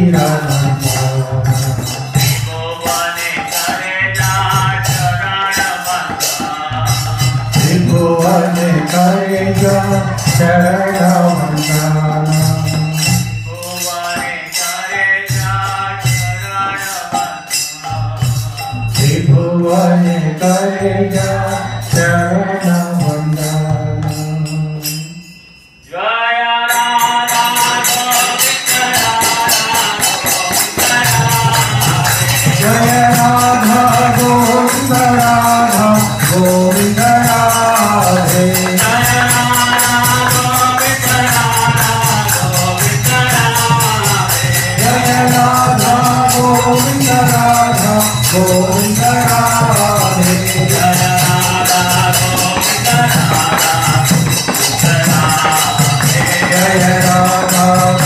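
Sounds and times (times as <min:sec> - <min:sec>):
hand cymbals jingling: 0:00.0 - 0:58.0
man singing devotional song: 0:00.0 - 0:58.0.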